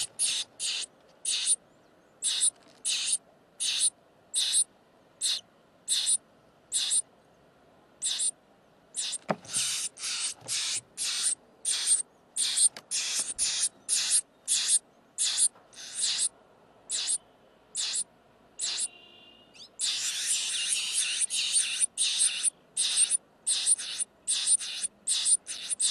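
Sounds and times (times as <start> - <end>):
nestling bird hissy screeches: 0.0 - 1.6, 2.2 - 7.0, 8.0 - 8.3, 9.0 - 16.3, 16.9 - 17.2, 17.8 - 18.9, 19.6 - 25.9.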